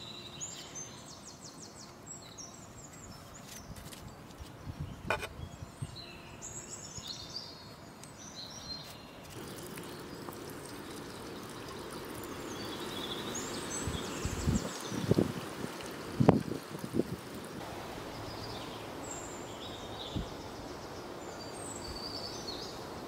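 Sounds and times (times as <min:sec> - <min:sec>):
small birds chirping: 0:00.0 - 0:23.0
steady outdoor hiss: 0:00.0 - 0:23.0.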